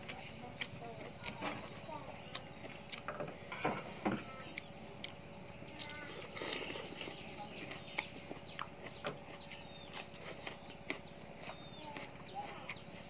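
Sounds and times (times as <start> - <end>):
chewing and lip-smacking: 0.0 - 3.1, 4.5 - 13.0
birds chirping: 0.0 - 13.0.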